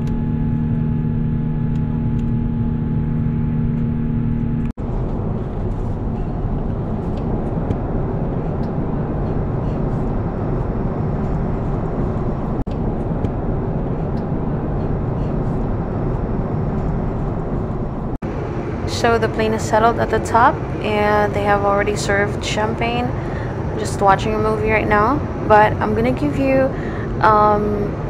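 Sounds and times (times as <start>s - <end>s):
airliner cabin roar: 0.0s - 28.0s.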